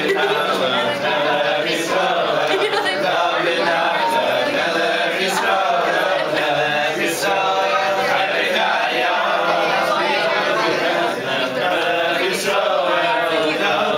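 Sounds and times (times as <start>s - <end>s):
men singing in chorus: 0.0s - 13.9s.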